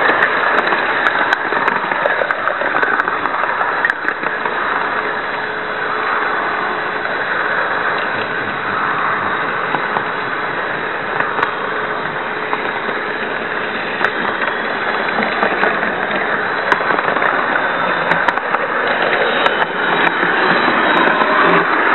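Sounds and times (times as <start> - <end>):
model train rattling on track: 0.0 - 21.9.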